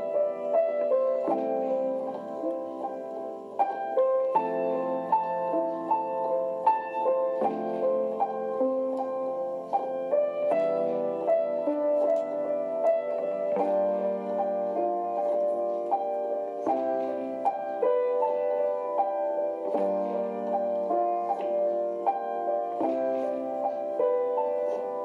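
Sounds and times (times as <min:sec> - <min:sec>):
instrumental piano music: 0:00.0 - 0:25.0.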